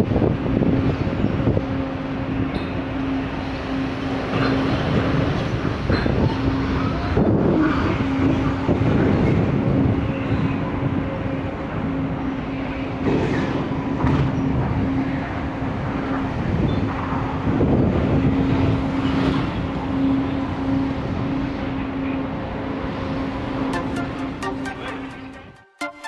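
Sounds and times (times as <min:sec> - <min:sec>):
wind buffeting microphone: 0:00.0 - 0:21.6
low machinery hum: 0:00.0 - 0:23.7.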